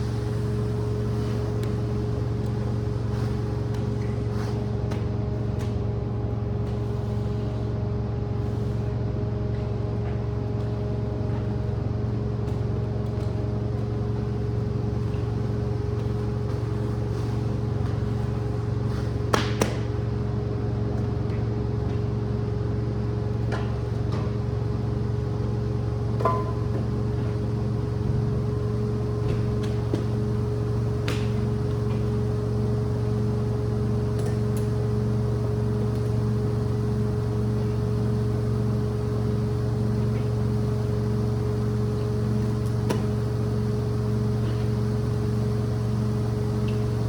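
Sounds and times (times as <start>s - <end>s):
cleaning machine motor drone: 0.0s - 47.0s.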